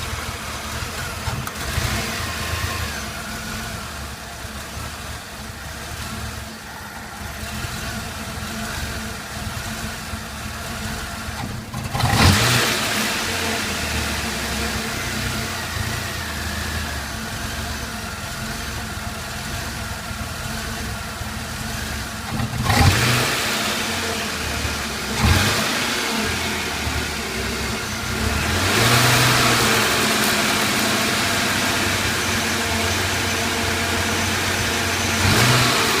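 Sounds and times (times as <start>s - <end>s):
engine idling roughly and revving: 0.0s - 36.0s.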